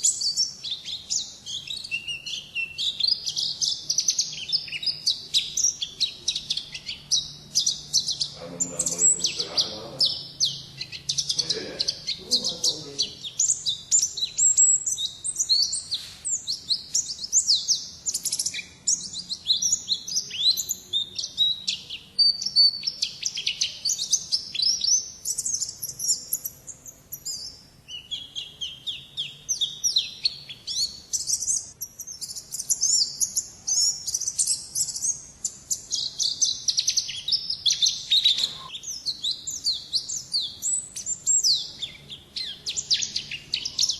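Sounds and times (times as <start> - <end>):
white-eye bird singing: 0.0 - 43.9.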